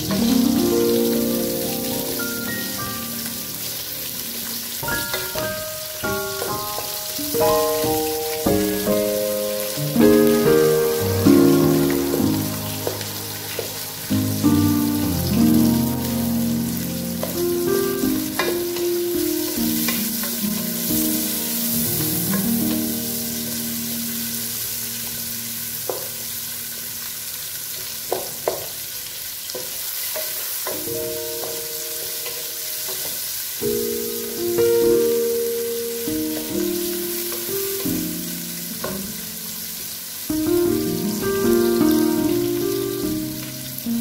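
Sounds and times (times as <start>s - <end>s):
soft background music: 0.0s - 26.6s, 30.9s - 33.0s, 33.6s - 44.0s
onions sizzling in hot oil: 0.0s - 44.0s.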